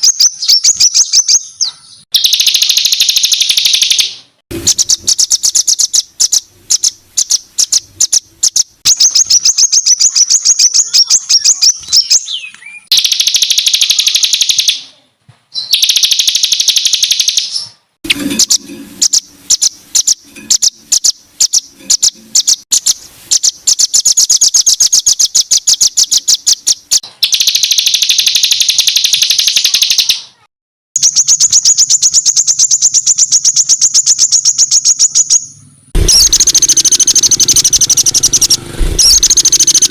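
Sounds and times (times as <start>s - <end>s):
songbird rapid harsh chips and trills: 0.0s - 39.9s.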